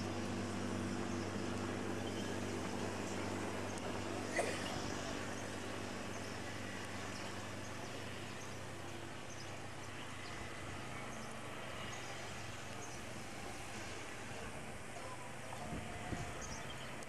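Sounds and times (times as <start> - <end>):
low even hum: 0.0 - 17.0.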